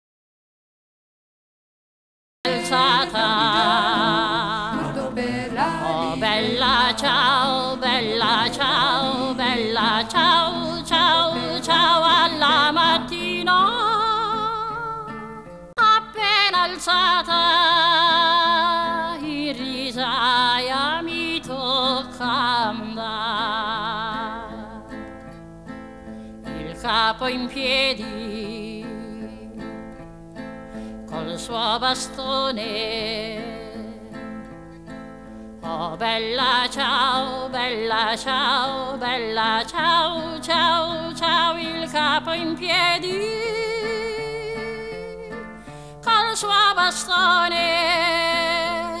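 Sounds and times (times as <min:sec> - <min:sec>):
person singing with vibrato: 0:02.5 - 0:25.0, 0:26.4 - 0:29.8, 0:31.1 - 0:34.2, 0:35.6 - 0:49.0.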